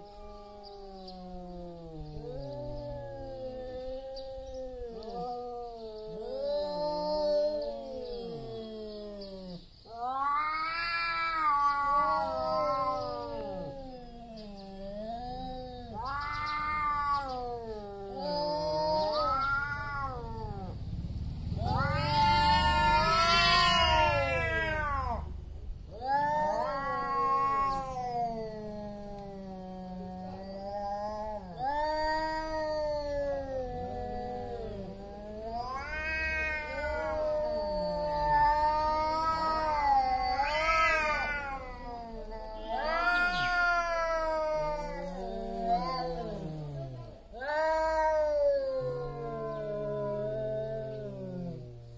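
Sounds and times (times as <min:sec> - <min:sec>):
cats yowling: 0:00.0 - 0:20.9, 0:21.6 - 0:51.9.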